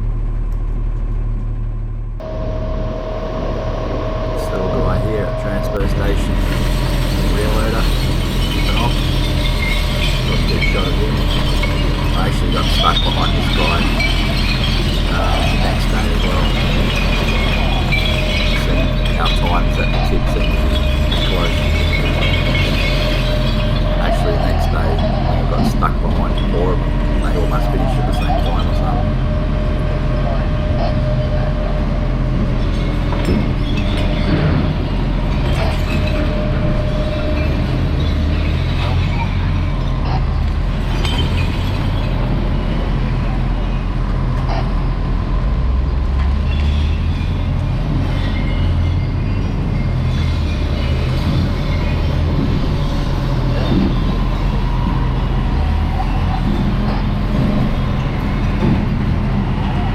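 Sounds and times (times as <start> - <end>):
diesel truck engine running: 0.0 - 59.9
road noise: 2.1 - 59.9.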